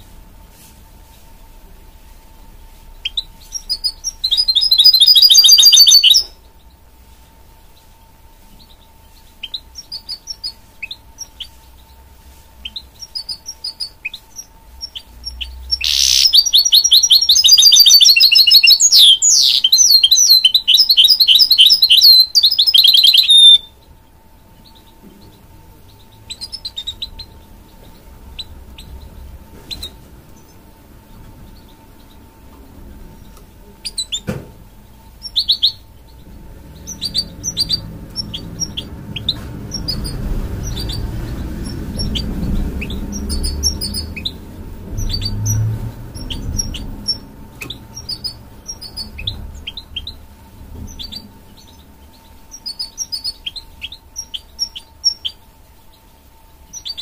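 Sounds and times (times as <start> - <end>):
bird calls: 3.0 - 6.8, 8.6 - 34.4, 35.1 - 57.0
finch singing trills: 3.0 - 6.8, 7.6 - 34.3, 35.2 - 57.0.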